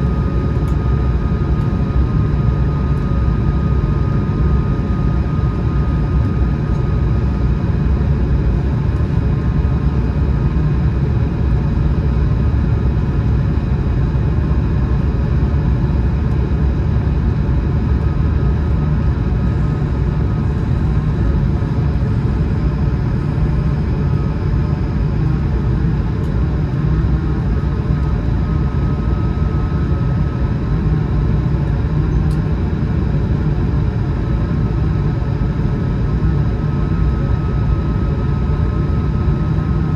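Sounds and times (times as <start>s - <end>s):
airflow and engine rumble: 0.0s - 39.9s
faint engine whine: 0.0s - 39.9s.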